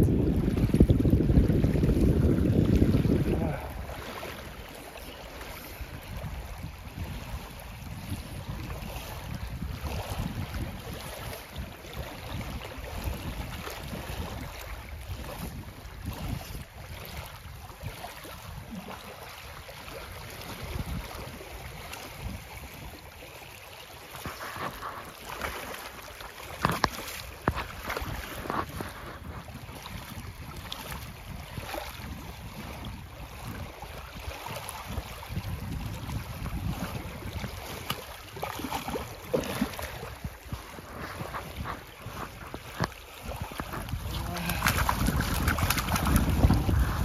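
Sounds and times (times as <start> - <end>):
waves lapping on gravel shore: 0.0 - 33.0, 33.6 - 47.0
wind rumbling on microphone: 0.0 - 47.0
fish splashing in shallows: 2.8 - 35.1, 35.8 - 47.0.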